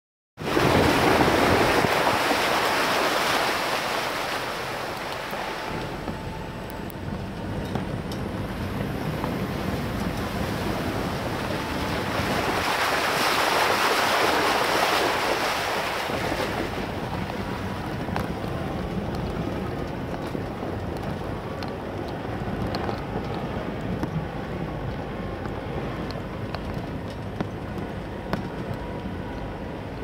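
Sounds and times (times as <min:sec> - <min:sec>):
tyres splashing through stream: 0:00.4 - 0:06.3, 0:07.8 - 0:26.7
vehicle engine rumble: 0:00.4 - 0:30.0.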